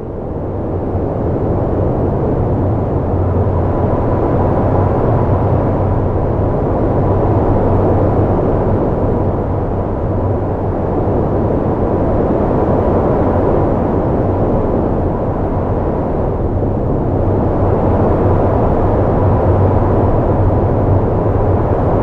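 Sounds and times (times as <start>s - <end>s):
strong storm wind: 0.0s - 22.0s.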